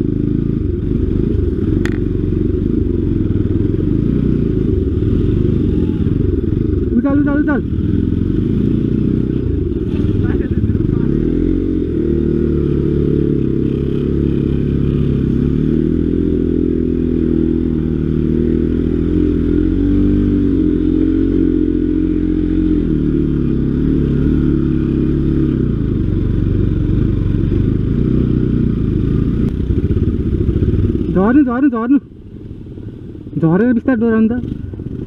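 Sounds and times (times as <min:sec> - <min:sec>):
motorcycle engine under load: 0:00.0 - 0:35.0.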